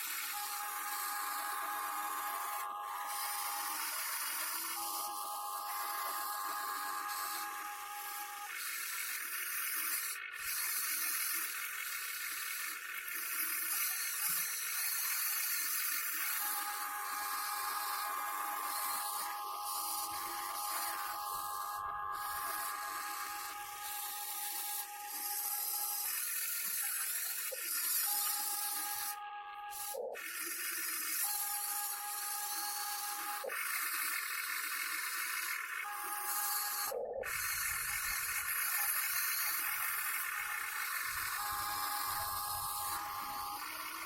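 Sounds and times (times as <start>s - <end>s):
electric motors whining: 0.0s - 44.0s.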